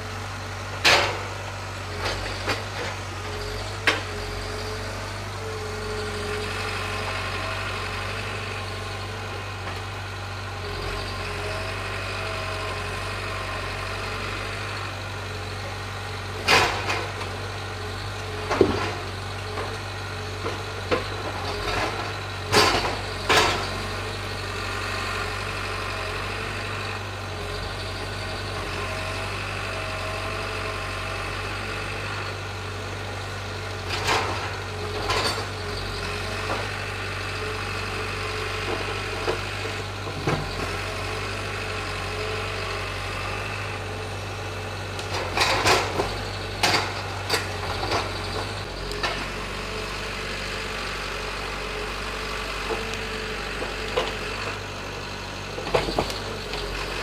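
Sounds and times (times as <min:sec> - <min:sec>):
diesel engine running: 0:00.0 - 0:57.0
hydraulic crane working: 0:00.0 - 0:57.0.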